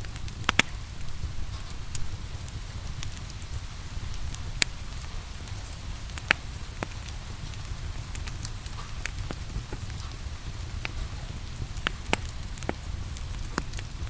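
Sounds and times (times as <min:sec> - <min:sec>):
rain hissing: 0:00.0 - 0:14.0
wood fire crackling: 0:00.0 - 0:14.0.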